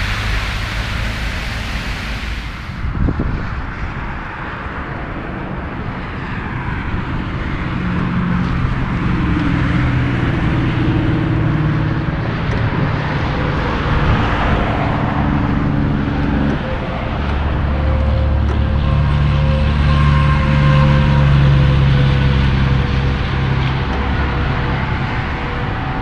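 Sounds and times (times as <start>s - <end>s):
diesel truck engine drone: 0.0s - 26.0s
tyre and road noise: 0.0s - 26.0s.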